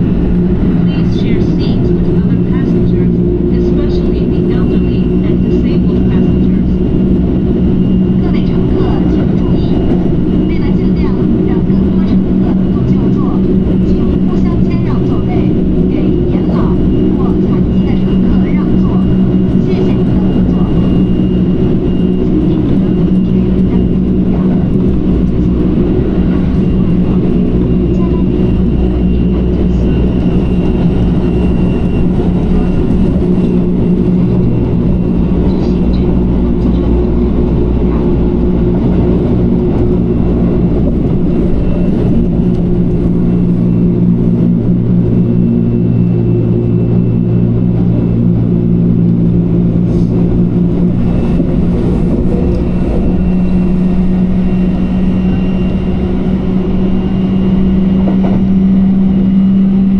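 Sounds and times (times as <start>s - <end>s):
low motor hum: 0.0s - 59.9s
train wheels rumbling on rails: 0.0s - 59.9s.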